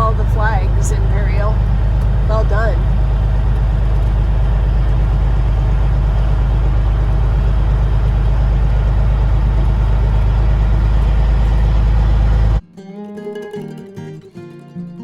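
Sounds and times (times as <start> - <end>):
truck engine and road drone: 0.0 - 12.6.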